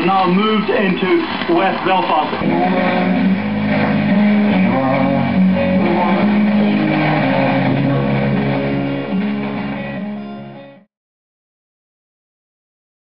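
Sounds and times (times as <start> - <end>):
dull music from valve radio: 0.0 - 10.8.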